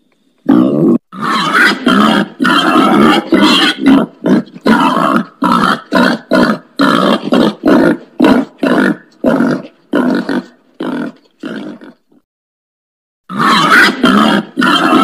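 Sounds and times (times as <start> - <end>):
wild pig grunting: 0.5 - 12.0, 13.3 - 15.0.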